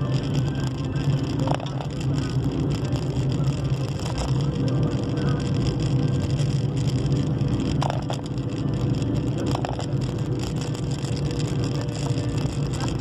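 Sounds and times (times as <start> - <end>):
low droning hum: 0.0 - 13.0.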